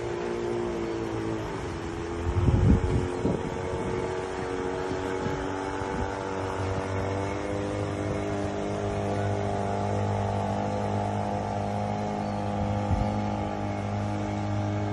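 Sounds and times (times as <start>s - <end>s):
outboard motor running: 0.0s - 14.9s.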